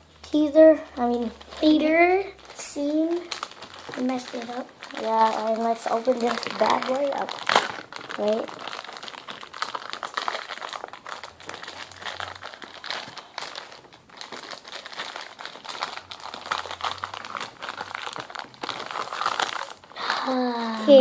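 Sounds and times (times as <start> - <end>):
packaging crinkling and tearing: 1.0 - 20.7.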